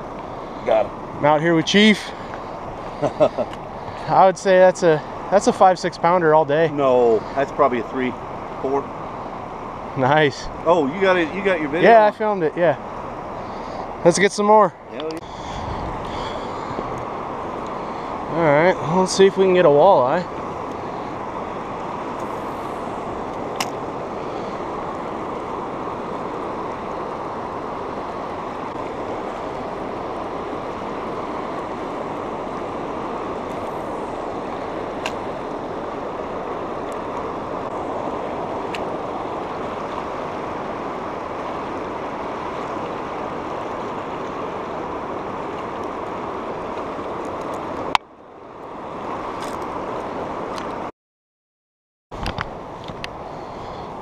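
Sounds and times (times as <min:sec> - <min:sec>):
river current rushing: 0:00.0 - 0:50.9, 0:52.2 - 0:54.0.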